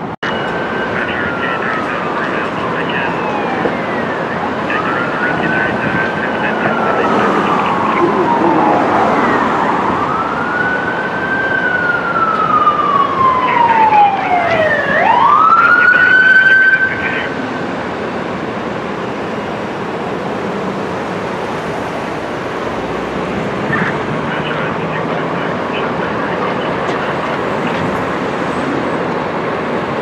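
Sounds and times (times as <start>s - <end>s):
ambulance siren wailing: 0.0s - 30.0s
traffic noise: 0.0s - 30.0s.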